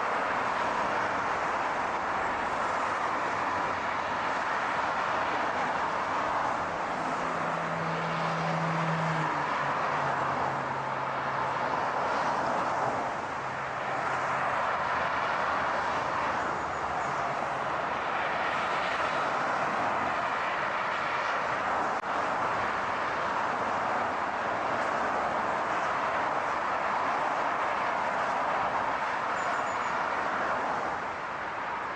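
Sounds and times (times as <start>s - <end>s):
car road and engine noise: 0.0s - 31.9s.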